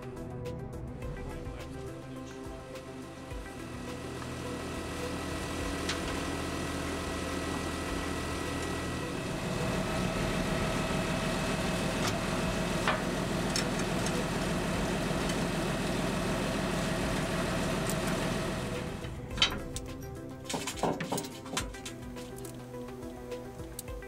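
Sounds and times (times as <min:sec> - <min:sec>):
diesel engine idling: 0:01.0 - 0:20.5.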